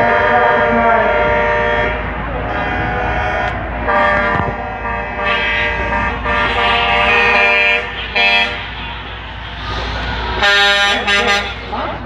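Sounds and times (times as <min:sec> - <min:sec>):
truck air horn blasts: 0:00.0 - 0:11.8
diesel trucks rumbling: 0:00.0 - 0:12.0.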